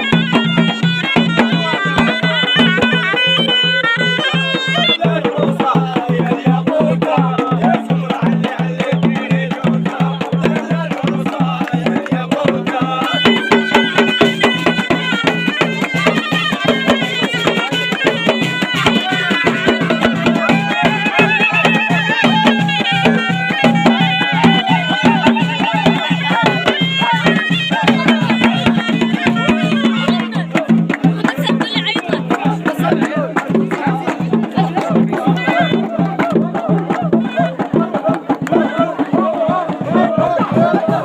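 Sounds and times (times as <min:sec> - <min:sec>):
fast drumbeat: 0:00.0 - 0:41.0
reedy shawm melody: 0:00.0 - 0:41.0.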